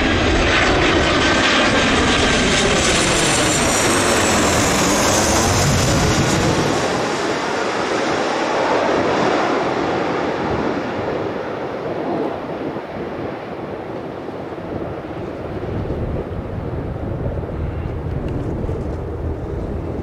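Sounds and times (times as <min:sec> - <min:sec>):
jet engines roaring overhead: 0:00.0 - 0:20.0.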